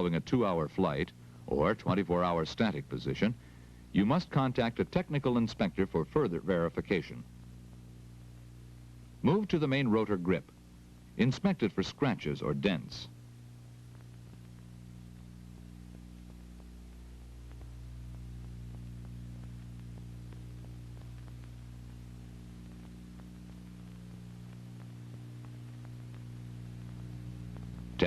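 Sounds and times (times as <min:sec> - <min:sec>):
faint background hiss: 0:00.0 - 0:28.0
faint crackles: 0:00.0 - 0:28.0
low electrical hum: 0:00.0 - 0:28.0.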